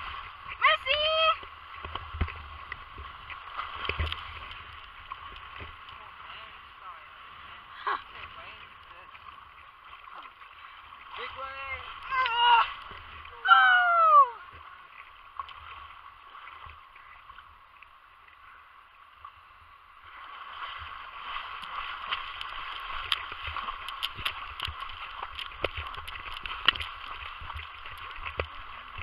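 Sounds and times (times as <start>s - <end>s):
surf sloshing and splashing: 0.0s - 29.0s.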